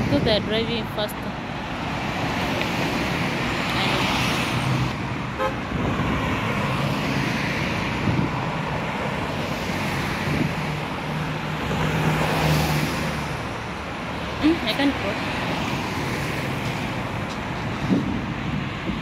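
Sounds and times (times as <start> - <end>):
cars passing at speed: 0.0 - 19.0.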